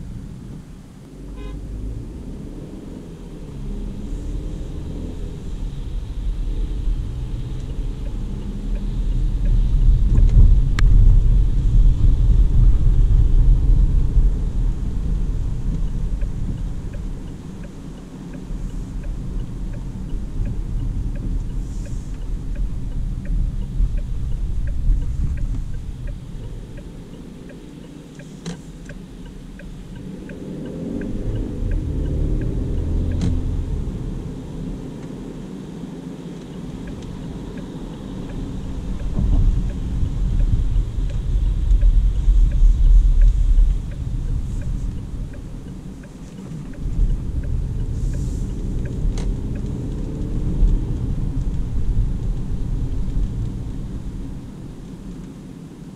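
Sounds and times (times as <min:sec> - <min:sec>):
car cabin rumble on wet road: 0:00.0 - 0:55.9.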